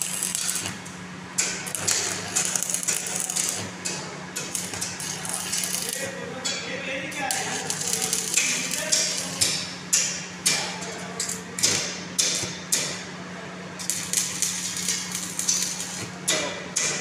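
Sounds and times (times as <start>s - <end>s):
welding arc crackling: 0.0s - 6.3s, 7.0s - 12.9s, 13.8s - 17.0s
steady low hum: 0.0s - 17.0s.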